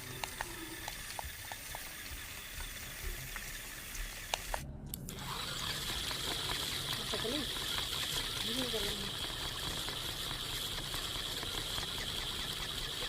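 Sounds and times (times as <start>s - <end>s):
small electric gear motor running: 0.0s - 13.0s.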